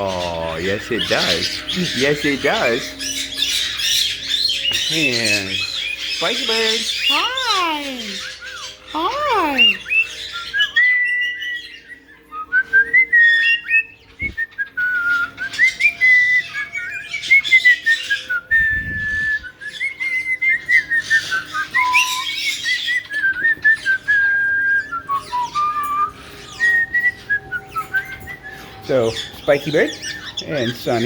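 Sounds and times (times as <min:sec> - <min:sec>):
parrots whistling: 0:00.0 - 0:31.0.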